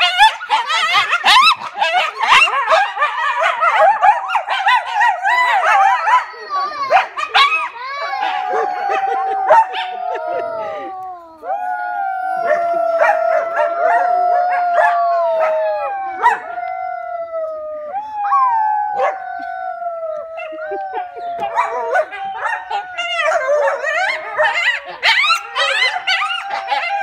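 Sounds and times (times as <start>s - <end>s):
coyotes howling and yipping: 0.0s - 27.0s.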